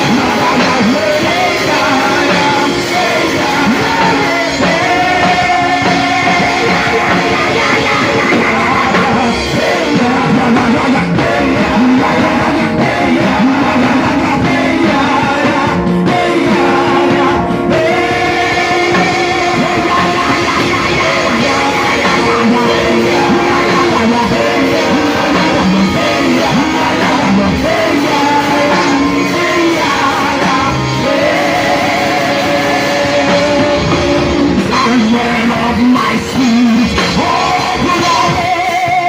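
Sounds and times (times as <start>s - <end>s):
guitar: 0.0s - 39.0s
loud band music with singing: 0.0s - 39.0s.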